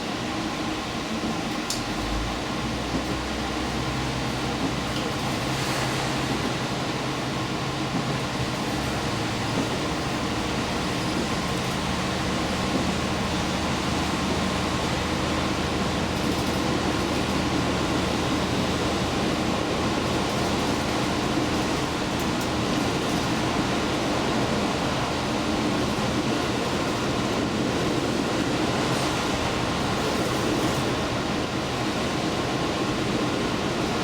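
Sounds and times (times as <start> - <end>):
train engine drone: 0.0 - 34.0
wheel and rail noise: 2.8 - 34.0.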